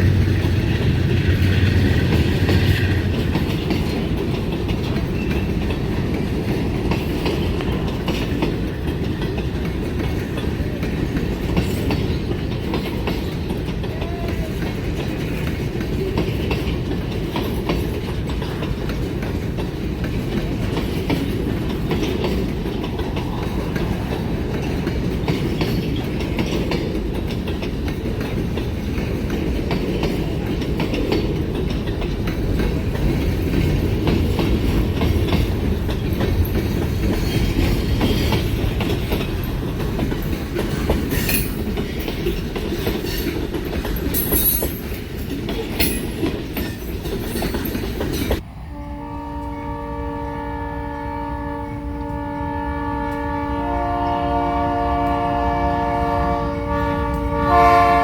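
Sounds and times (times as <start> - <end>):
wheels clicking over rails: 0.0 - 48.4
freight train rumbling: 0.0 - 58.0.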